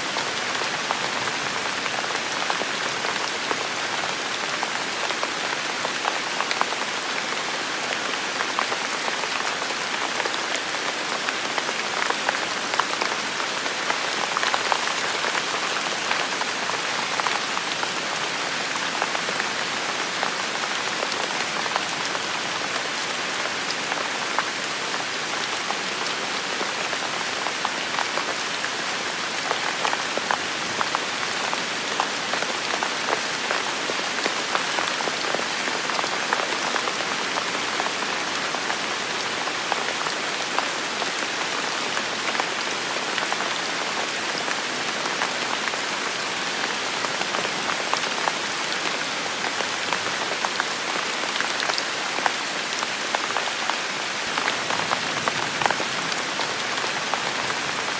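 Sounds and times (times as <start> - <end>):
heavy rain pattering: 0.0 - 57.9.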